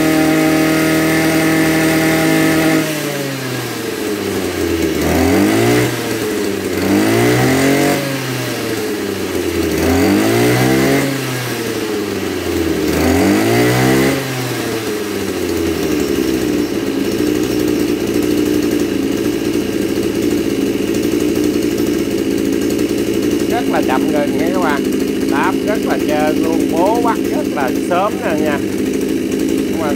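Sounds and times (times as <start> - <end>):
brush cutter engine idling: 0.0 - 29.9
brush cutter engine revving: 0.0 - 29.9.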